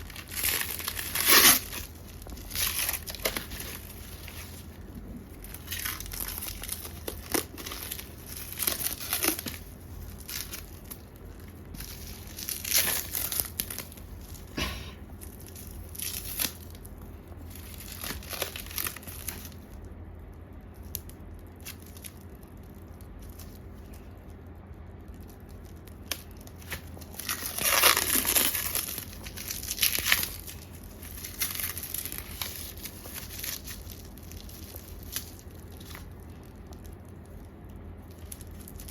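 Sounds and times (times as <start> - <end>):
packaging tearing and crinkling: 0.0 - 14.5, 15.2 - 19.8, 25.1 - 38.9.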